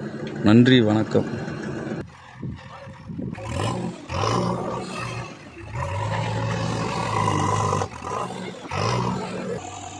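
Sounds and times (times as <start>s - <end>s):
diesel engine revving: 0.0s - 9.9s.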